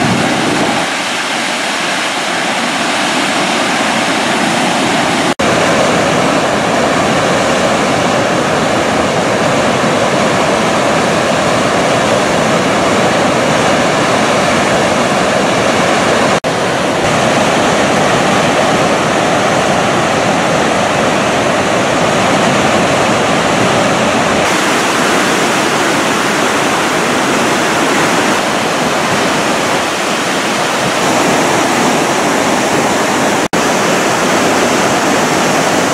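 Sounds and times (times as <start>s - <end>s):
loud rush of water: 0.0s - 35.9s.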